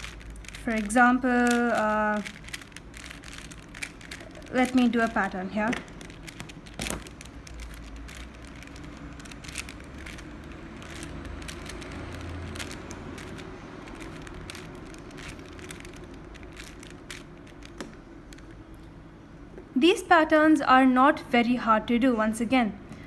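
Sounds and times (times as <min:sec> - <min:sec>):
puzzle cube clicking: 0:00.0 - 0:18.8.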